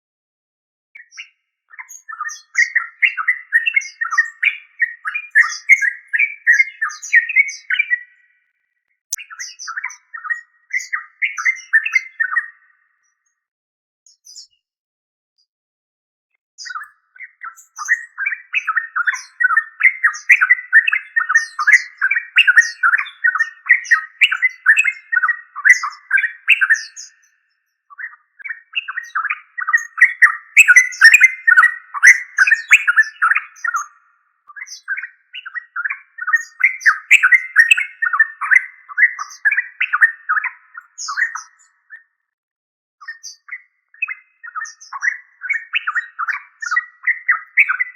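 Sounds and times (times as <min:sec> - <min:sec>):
bird chattering song: 0:01.0 - 0:08.4, 0:09.1 - 0:13.3, 0:14.1 - 0:14.6, 0:16.6 - 0:42.2, 0:43.0 - 0:47.9.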